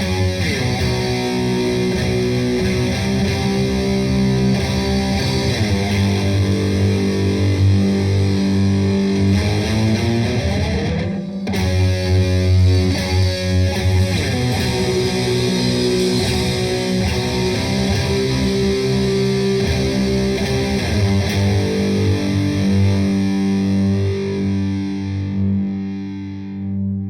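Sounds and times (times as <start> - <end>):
dense high noise: 0.0 - 22.4
distorted electric guitar riff: 0.0 - 27.0.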